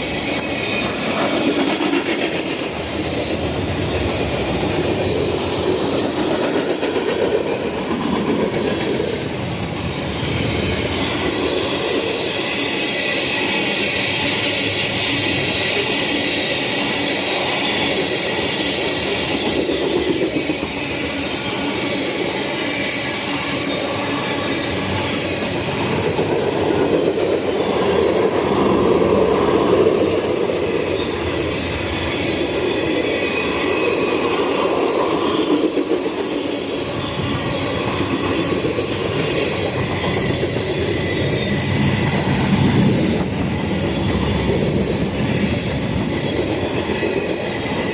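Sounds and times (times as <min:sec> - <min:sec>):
thin squeal of wheels on rails: 0:00.0 - 0:47.9
train wheels clattering over rail joints: 0:00.0 - 0:47.9.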